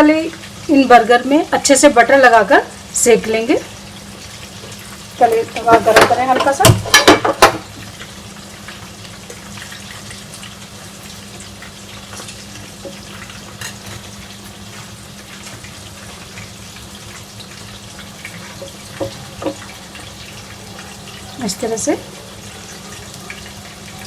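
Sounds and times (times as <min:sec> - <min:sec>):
hot griddle sizzling: 0:00.0 - 0:24.0.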